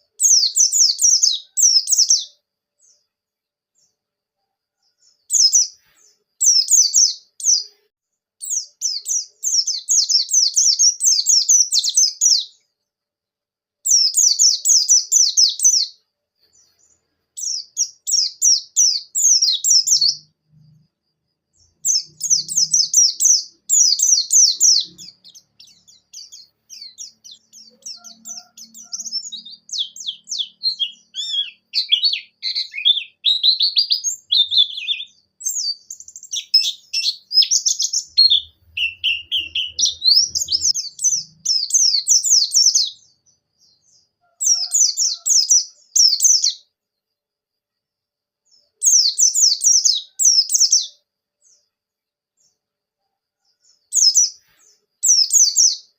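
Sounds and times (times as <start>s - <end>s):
bird twittering song: 0.0s - 12.9s, 13.8s - 46.7s, 48.4s - 51.8s, 53.4s - 55.9s.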